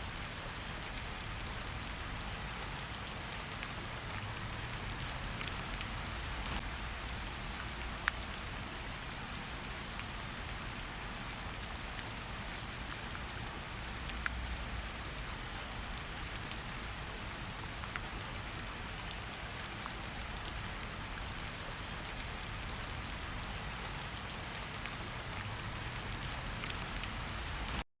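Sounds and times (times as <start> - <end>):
heavy rain falling: 0.0 - 27.8.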